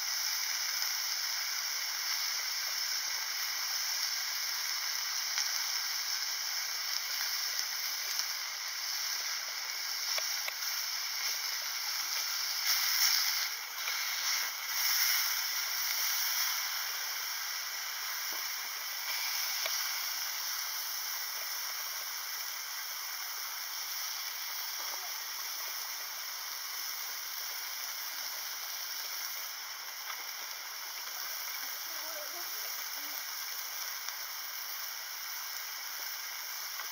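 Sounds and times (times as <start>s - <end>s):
meat sizzling in a frying pan: 0.0s - 36.9s.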